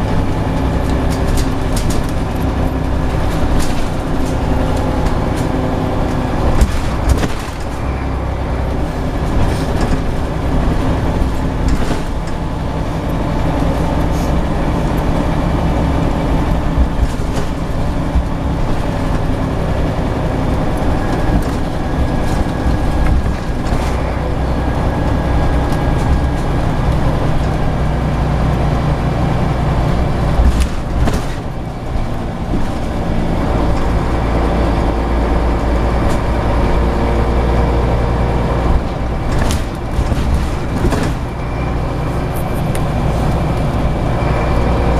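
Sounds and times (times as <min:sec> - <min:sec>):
knocks and rattles: 0:00.0 - 0:24.4, 0:29.8 - 0:36.3, 0:38.6 - 0:44.0
bus diesel engine drone: 0:00.0 - 0:44.9.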